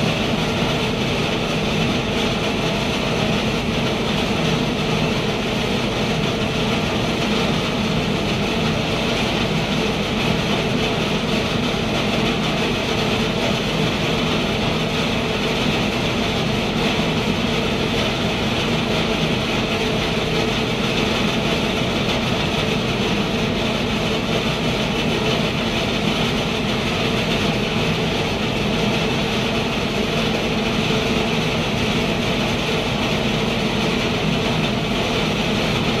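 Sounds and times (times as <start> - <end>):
grinding mill and blower humming: 0.0 - 36.0.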